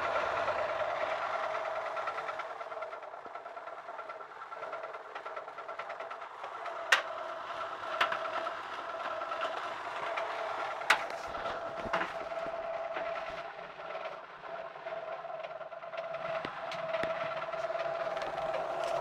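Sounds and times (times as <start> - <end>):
tumble dryer whine and rattle: 0.0 - 19.0.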